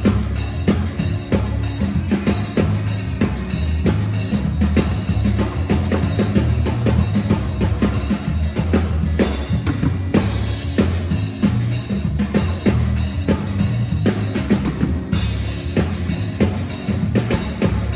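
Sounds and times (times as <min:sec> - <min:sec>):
music with drum beat and bass: 0:00.0 - 0:17.9.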